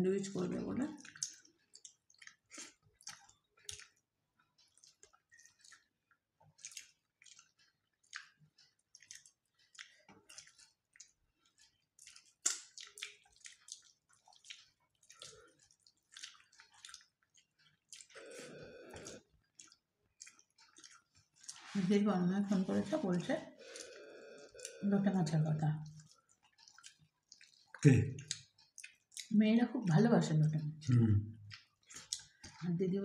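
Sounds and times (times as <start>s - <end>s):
chewing: 0.8s - 30.7s, 31.4s - 32.8s.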